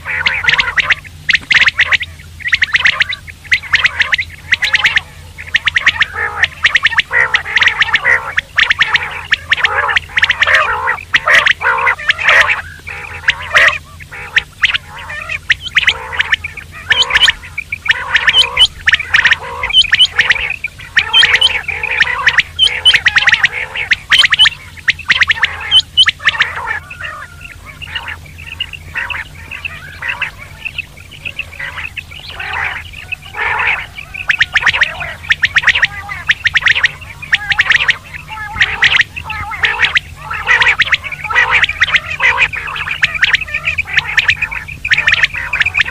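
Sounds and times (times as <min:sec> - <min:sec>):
quail calling: 0:00.0 - 0:45.9
steady low hum: 0:00.0 - 0:45.9.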